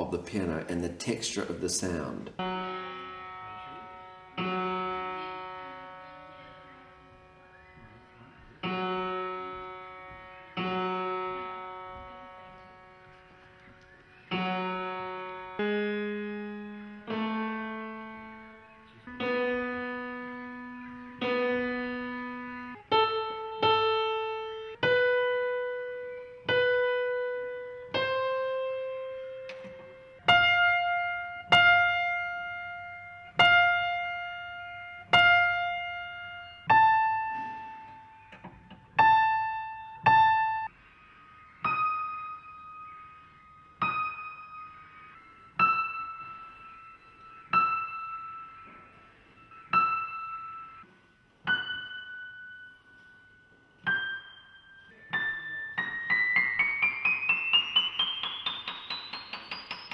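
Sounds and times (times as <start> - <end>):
slow piano melody: 0.0 - 59.9.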